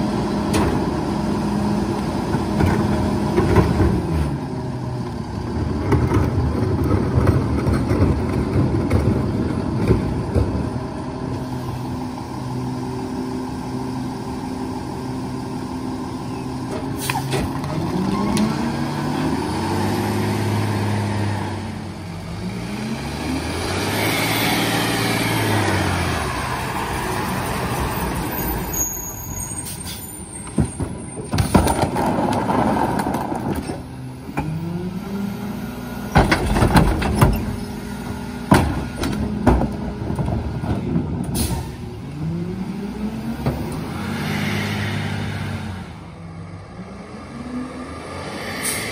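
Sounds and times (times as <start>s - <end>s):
garbage truck diesel engine revving: 0.0s - 28.4s, 33.8s - 48.9s.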